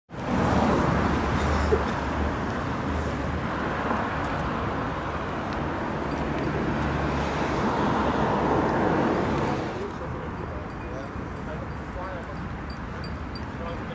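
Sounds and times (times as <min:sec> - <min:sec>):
street noise: 0:00.1 - 0:13.9.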